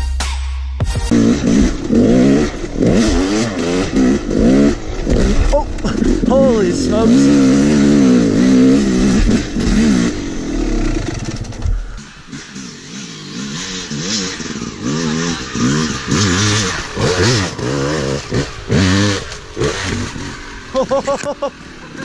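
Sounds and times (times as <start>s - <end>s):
dirt bike engine revving: 1.1s - 22.0s.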